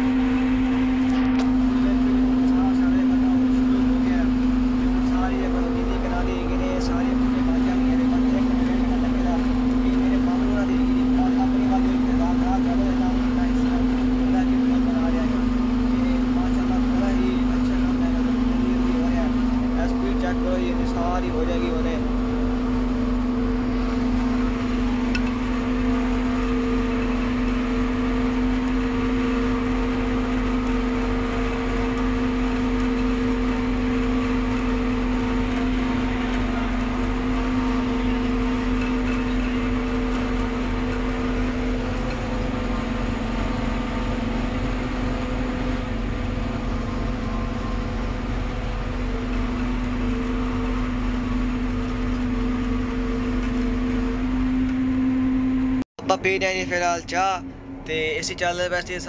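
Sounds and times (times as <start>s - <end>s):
harvester machine drone: 0.0s - 59.0s.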